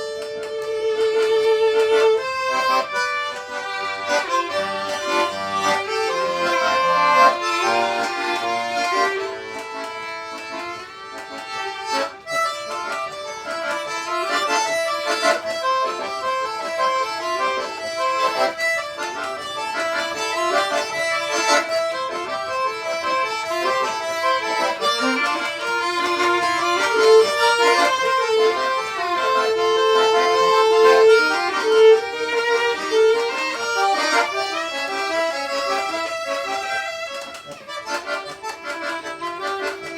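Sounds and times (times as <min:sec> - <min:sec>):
live folk music duo: 0:00.0 - 0:39.9.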